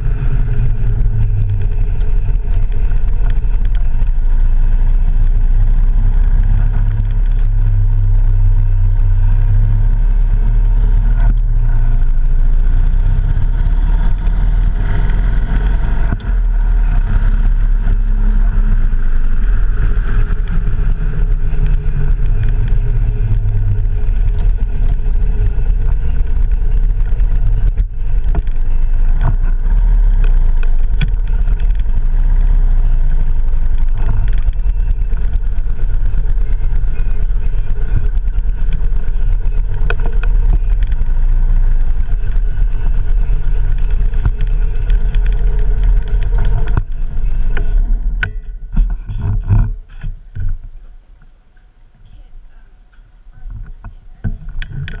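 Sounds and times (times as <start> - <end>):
motorcycle engine running: 0.0 - 50.8
wind on microphone: 0.0 - 51.0.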